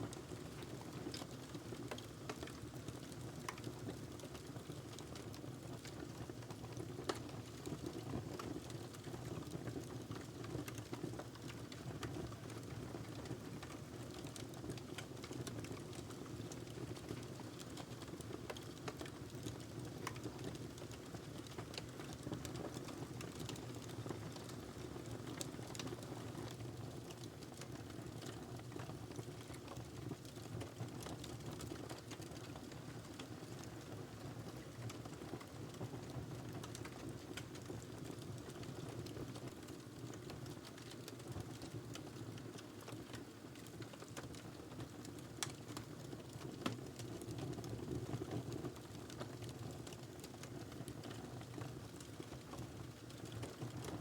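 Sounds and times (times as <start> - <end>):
low rumble of burning wood: 0.0 - 54.0.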